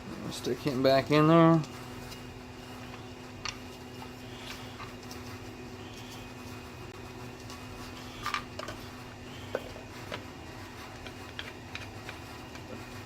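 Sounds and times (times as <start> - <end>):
furnace humming: 0.0 - 13.0.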